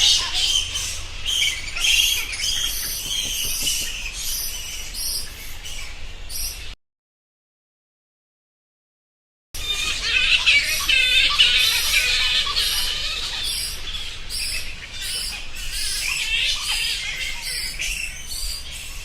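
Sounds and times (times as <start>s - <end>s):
flying foxes screeching: 0.0s - 6.8s, 9.6s - 19.0s.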